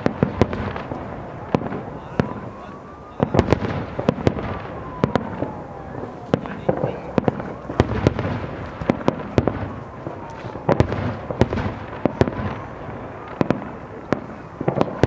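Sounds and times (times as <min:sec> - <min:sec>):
continuous rumbling: 0:00.0 - 0:15.0.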